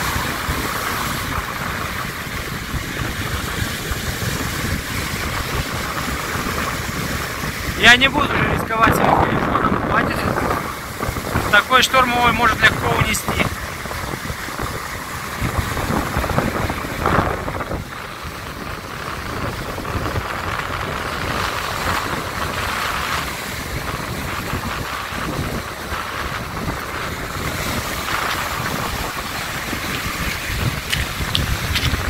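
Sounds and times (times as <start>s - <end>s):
surf breaking on pebbles: 0.0s - 32.0s
wind buffeting microphone: 0.0s - 32.0s.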